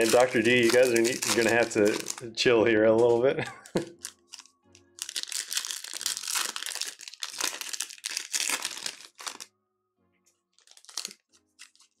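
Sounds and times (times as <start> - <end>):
plastic wrapper crinkling: 0.0 - 2.3, 3.5 - 9.5, 10.6 - 12.0.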